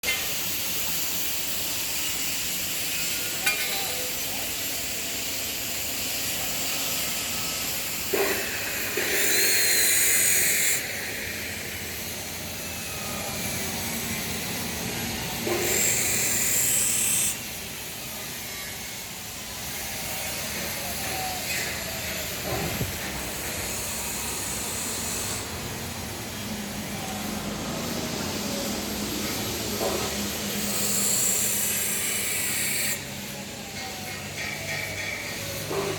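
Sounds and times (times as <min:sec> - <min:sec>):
loud hiss of escaping steam: 0:00.0 - 0:35.9
steam boiler rushing: 0:00.0 - 0:35.9.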